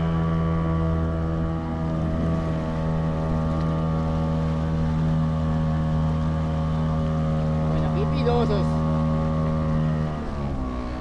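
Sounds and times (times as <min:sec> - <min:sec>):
motor humming steadily: 0:00.0 - 0:11.0.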